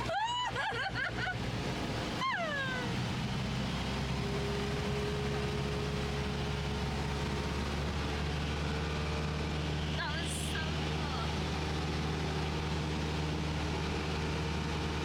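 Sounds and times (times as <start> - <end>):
aircraft piston engine running: 0.0 - 15.0.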